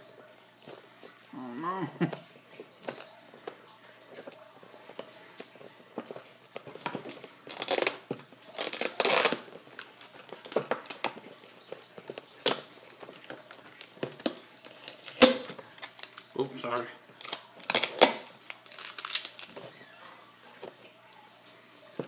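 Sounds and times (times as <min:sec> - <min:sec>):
plastic packaging crinkling and tearing: 0:00.0 - 0:22.0.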